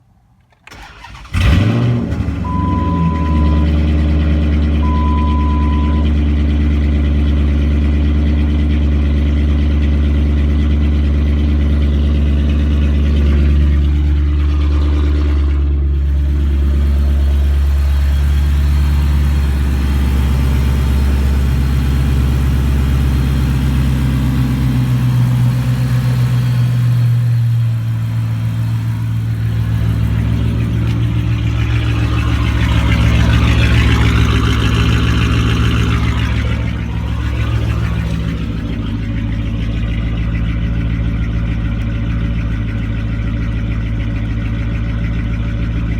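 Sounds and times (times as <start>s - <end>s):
loud open-header engine idle: 0.8s - 45.9s.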